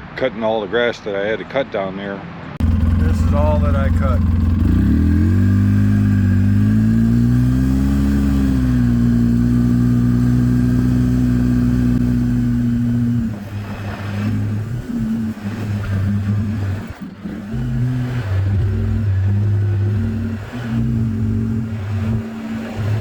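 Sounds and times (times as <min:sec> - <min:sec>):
engine running: 0:02.6 - 0:23.0.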